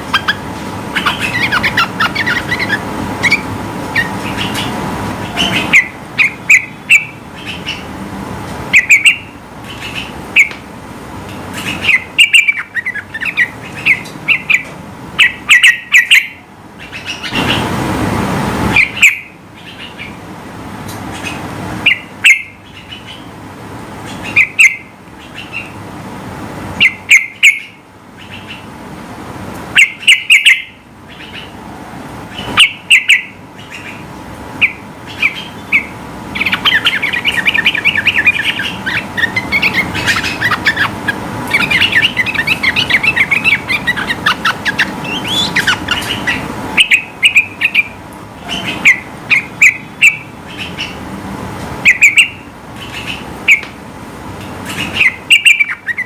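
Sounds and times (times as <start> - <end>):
bulbul calling: 0.0 - 7.9, 8.7 - 10.6, 11.6 - 17.6, 18.7 - 20.2, 21.1 - 23.3, 24.0 - 25.8, 26.8 - 28.7, 29.8 - 31.6, 32.3 - 34.0, 34.6 - 51.0, 51.8 - 53.8, 54.7 - 56.0
rushing background noise: 0.0 - 56.0.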